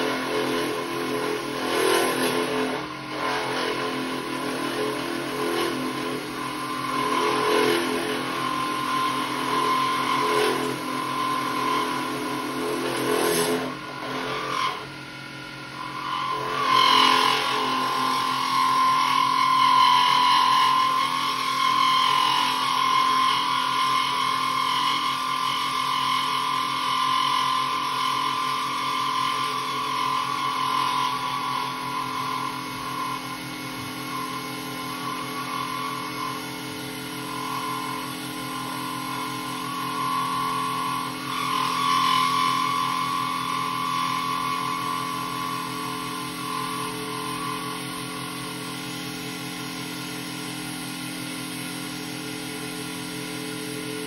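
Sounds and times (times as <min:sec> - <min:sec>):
high wavering cutting whine: 0:00.0 - 0:54.0
lathe motor hum: 0:00.0 - 0:54.0.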